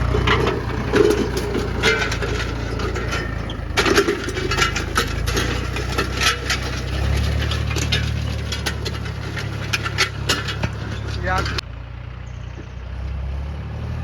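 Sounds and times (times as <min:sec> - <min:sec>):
harrow rattling and clanking: 0:00.0 - 0:11.6
tractor diesel engine running: 0:00.0 - 0:14.0.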